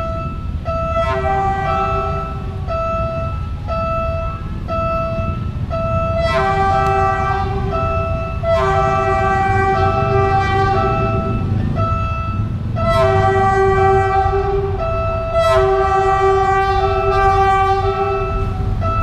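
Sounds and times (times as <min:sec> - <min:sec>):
passing train rumble: 0:00.0 - 0:19.0
train horn blasts: 0:00.0 - 0:19.0
two-tone warning signal: 0:00.0 - 0:19.0.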